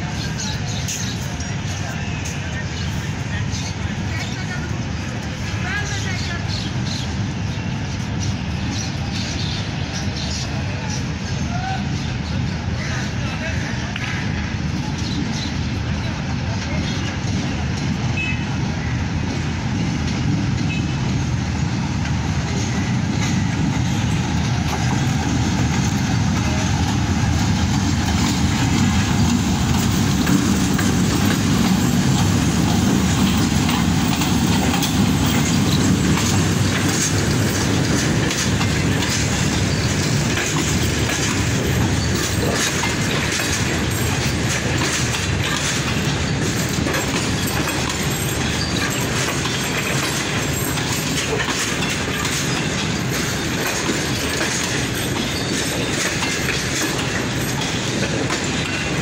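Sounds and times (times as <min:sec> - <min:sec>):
diesel locomotive engine passing: 0:00.0 - 0:59.0
train wheels clickety-clack: 0:00.0 - 0:59.0.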